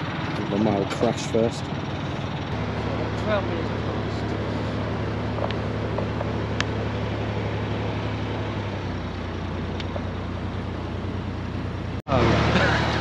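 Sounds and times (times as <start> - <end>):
boat diesel engine running: 0.0 - 13.0.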